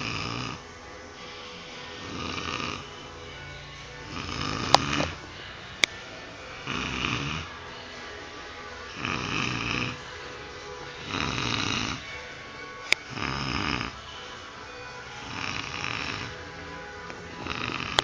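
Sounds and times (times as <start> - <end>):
person snoring: 0.0 - 8.1, 8.7 - 12.3, 13.0 - 14.3, 14.9 - 18.0.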